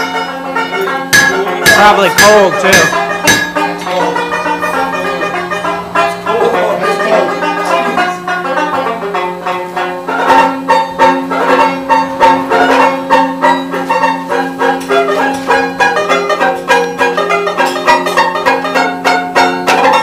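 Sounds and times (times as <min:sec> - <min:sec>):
plucked string notes: 0:00.0 - 0:20.0.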